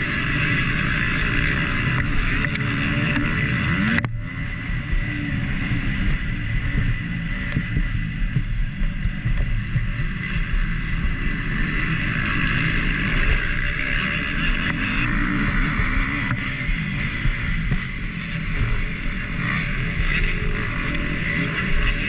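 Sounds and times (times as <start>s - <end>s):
motocross engine running hard: 0.0s - 22.0s
rushing wind noise: 0.0s - 22.0s.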